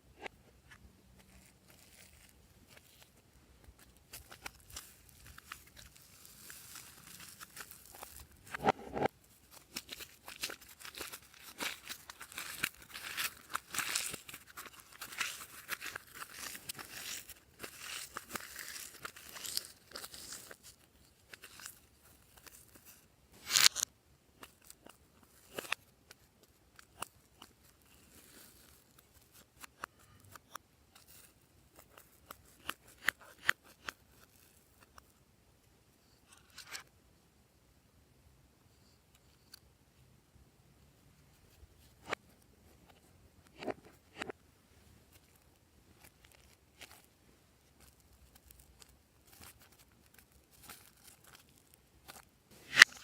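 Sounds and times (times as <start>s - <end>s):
crinkling handling sounds: 0.2s - 35.2s, 41.4s - 53.0s.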